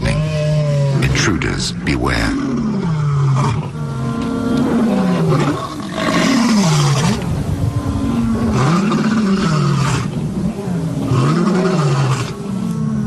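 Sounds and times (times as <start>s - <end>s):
lions roaring: 0.0s - 13.0s.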